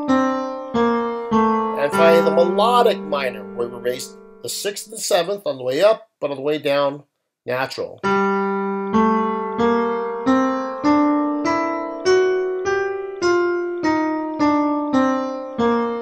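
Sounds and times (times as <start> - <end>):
piano scale single notes: 0.0 - 5.2, 8.0 - 16.0.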